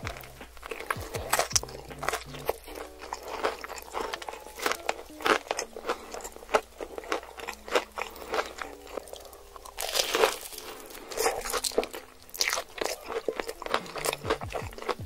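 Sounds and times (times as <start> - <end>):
crunching and chewing fried chicken: 0.0 - 15.0.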